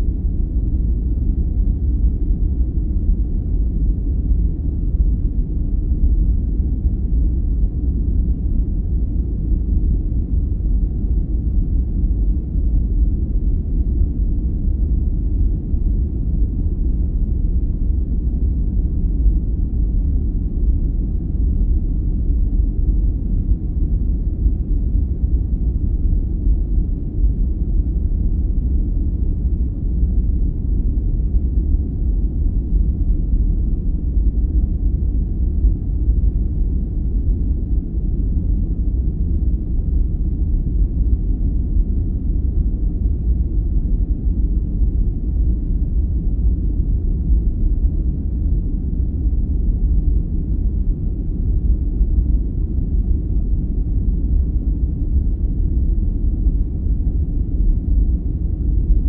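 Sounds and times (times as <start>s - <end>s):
deep rumbling white noise: 0.0s - 59.0s.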